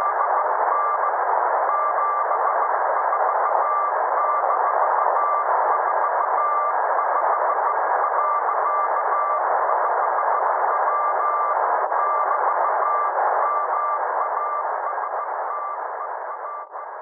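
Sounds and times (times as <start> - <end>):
radio static: 0.0 - 17.0.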